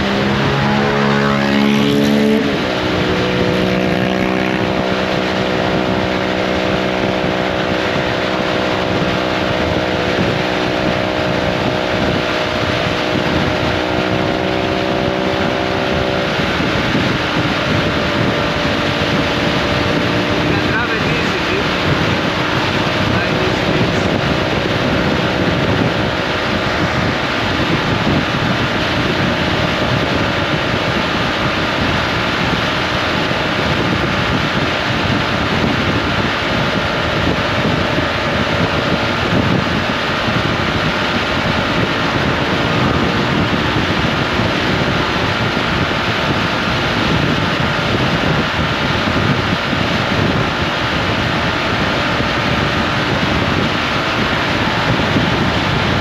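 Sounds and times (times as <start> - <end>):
scooter engine drone: 0.0 - 56.0
wind rushing over microphone: 0.0 - 56.0.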